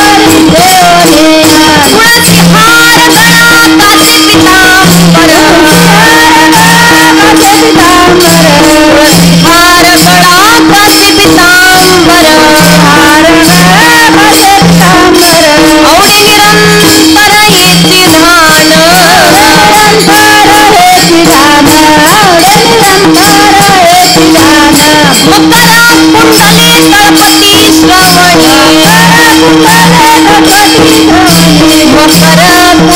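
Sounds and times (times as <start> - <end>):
jingling cymbals: 0.0 - 32.9
pitched drum strokes: 0.0 - 32.9.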